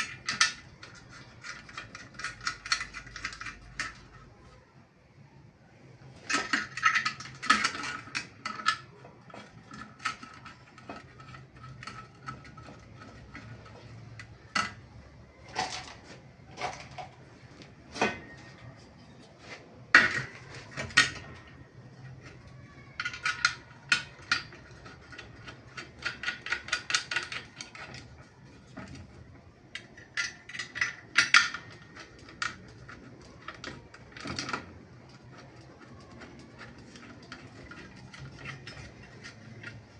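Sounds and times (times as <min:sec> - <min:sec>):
metal parts clinking and knocking: 0:00.0 - 0:04.4, 0:06.1 - 0:17.3, 0:19.9 - 0:39.9.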